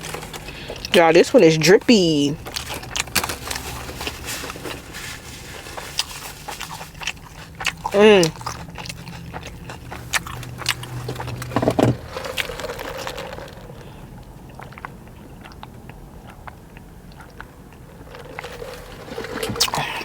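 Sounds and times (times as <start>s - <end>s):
chewing and mouth sounds: 0.0s - 20.0s.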